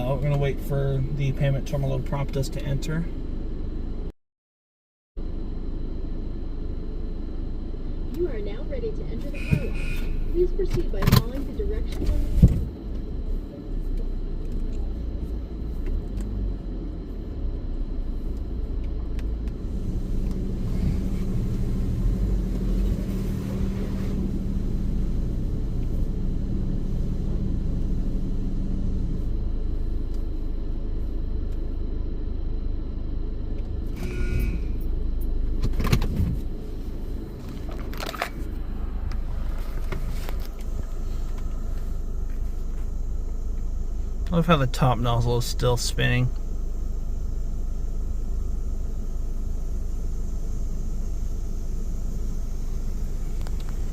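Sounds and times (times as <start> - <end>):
car engine rumble: 0.0 - 4.1, 5.2 - 53.9.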